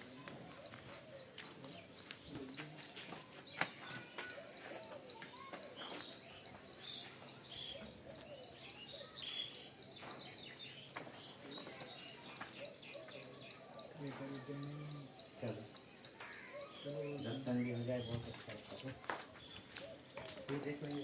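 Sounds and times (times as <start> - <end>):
farmyard background noise: 0.0 - 21.0
small bird chirping: 0.0 - 21.0.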